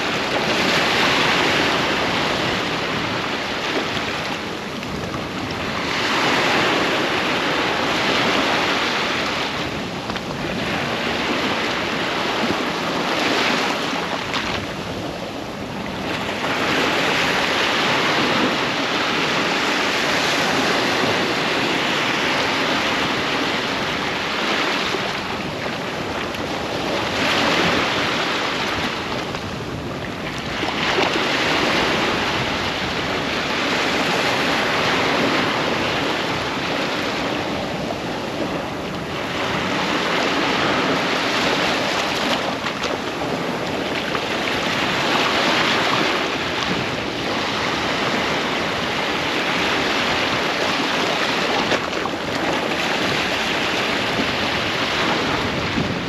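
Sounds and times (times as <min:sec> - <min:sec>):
waves crashing on beach: 0:00.0 - 0:56.0.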